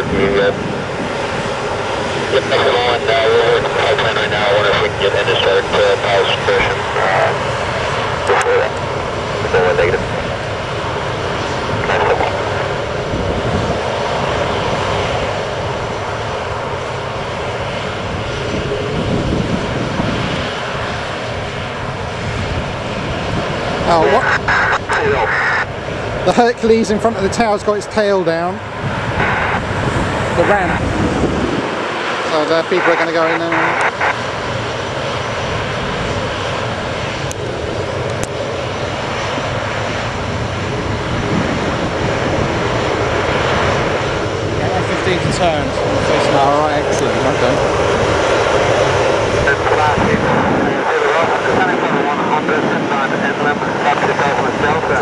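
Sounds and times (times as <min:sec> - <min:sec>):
aircraft engines running: 0:00.0 - 0:55.0.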